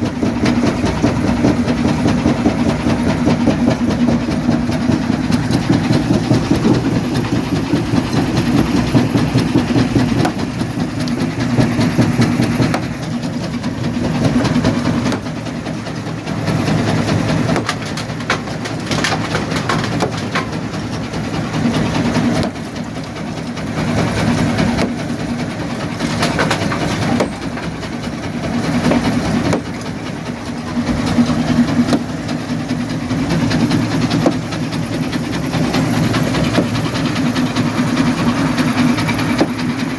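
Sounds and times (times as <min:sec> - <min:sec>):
jaw crusher rumbling: 0:00.0 - 0:39.9.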